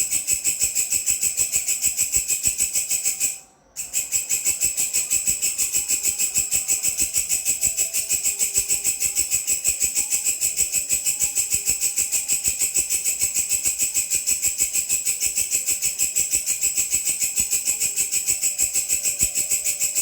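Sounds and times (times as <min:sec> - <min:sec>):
insect stridulating shrill buzz: 0:00.0 - 0:20.0.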